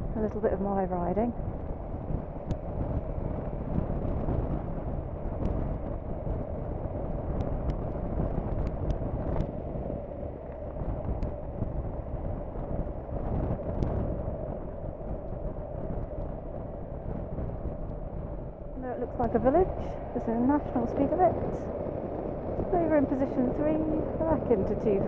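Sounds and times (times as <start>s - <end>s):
motorcycle droning at road speed: 0.0s - 25.0s
wind rush on microphone: 0.0s - 25.0s.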